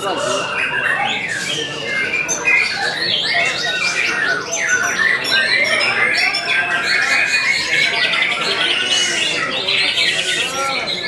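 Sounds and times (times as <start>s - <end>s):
birds singing whistles and trills: 0.0s - 11.0s.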